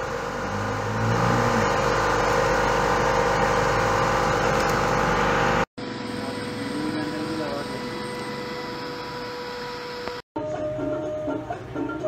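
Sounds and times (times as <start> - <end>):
motor or fan humming: 0.0 - 10.2.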